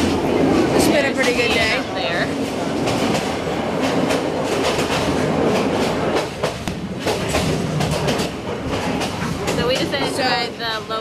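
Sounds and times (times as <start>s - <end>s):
train wheels clattering: 0.0s - 11.0s.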